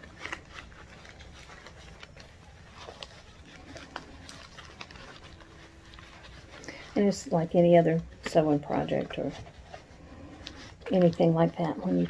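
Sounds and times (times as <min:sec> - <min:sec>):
fabric bag rustling: 0:00.0 - 0:12.0.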